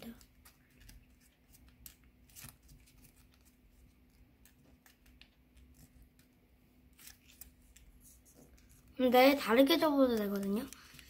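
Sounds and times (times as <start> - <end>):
paper rustling and creasing: 0.0 - 11.0.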